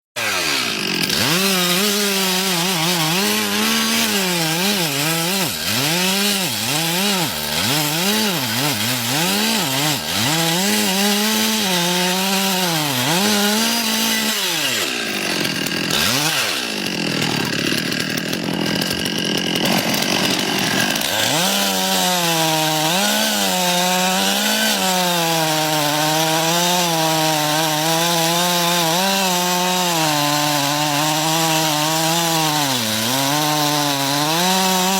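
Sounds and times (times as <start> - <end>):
chainsaw revving: 0.2 - 34.9.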